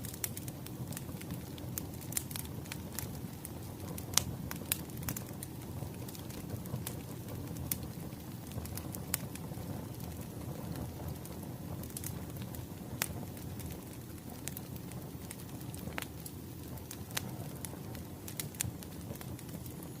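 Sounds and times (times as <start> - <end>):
low rumble of fire: 0.0 - 20.0
wood fire crackling: 0.0 - 20.0.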